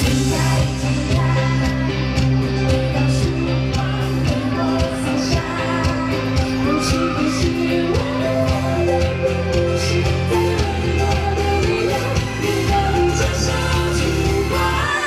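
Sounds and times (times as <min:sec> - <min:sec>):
guitar: 0:00.0 - 0:15.0
person singing: 0:00.0 - 0:15.0.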